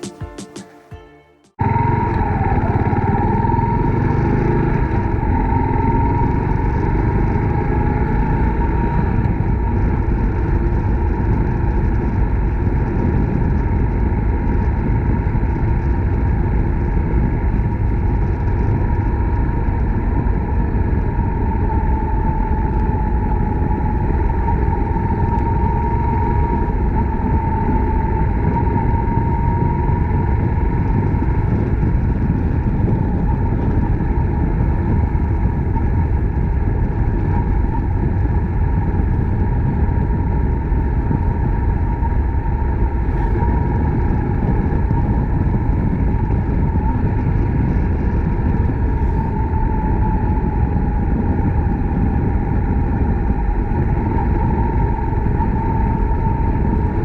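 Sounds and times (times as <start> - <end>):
motorcycle engine running: 1.6 - 57.0
wind rushing over microphone: 1.6 - 57.0.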